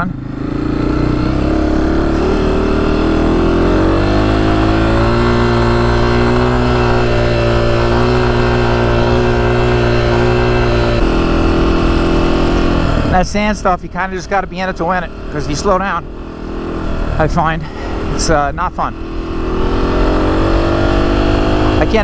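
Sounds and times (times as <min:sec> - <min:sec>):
dirt bike engine pulling: 0:00.0 - 0:22.0.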